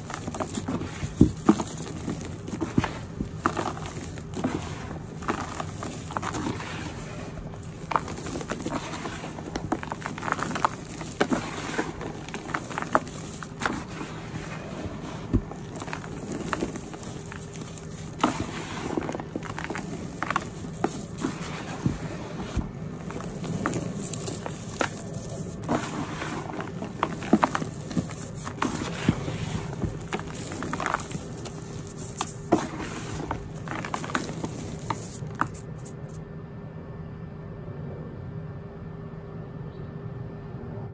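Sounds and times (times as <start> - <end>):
hands crushing dry powder clumps: 0.0 - 36.2.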